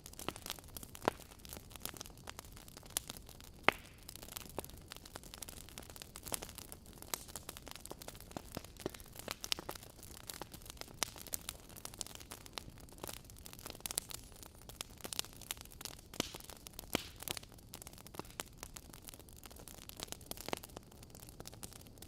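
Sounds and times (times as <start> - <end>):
wood crackling in fireplace: 0.0 - 22.0.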